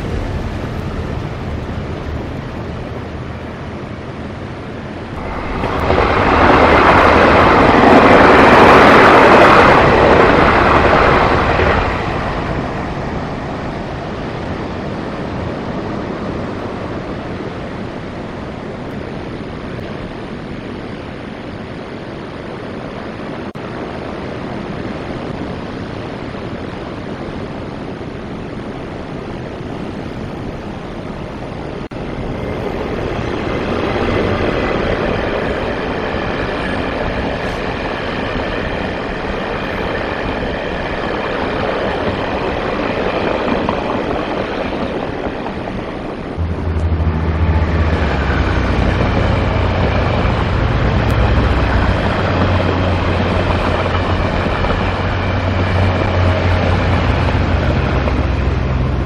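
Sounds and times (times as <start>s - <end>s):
train passing: 0.0s - 59.0s
wind noise: 0.0s - 59.0s.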